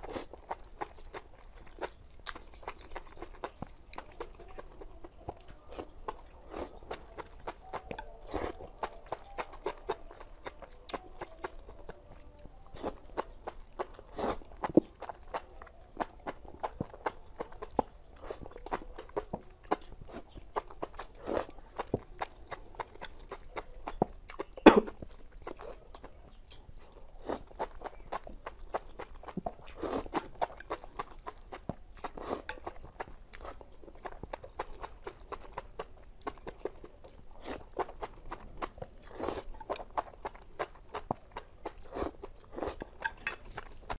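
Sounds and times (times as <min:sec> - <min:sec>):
person chewing with crunches: 0:00.0 - 0:43.9.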